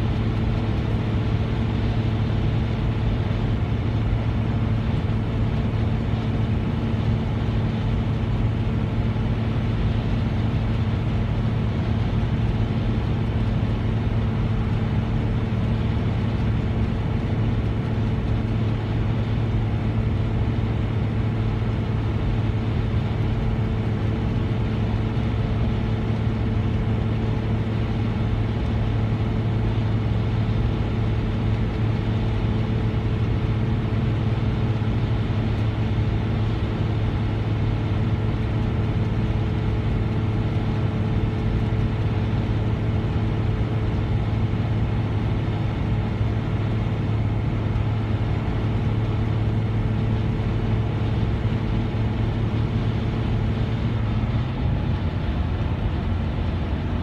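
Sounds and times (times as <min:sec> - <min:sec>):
car engine and road hum: 0:00.0 - 0:57.0.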